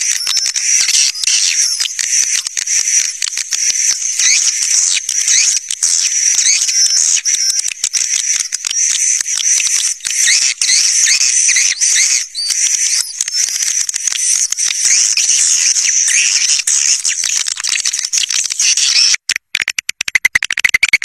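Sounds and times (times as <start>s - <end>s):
flock of birds twittering: 0.0s - 19.1s.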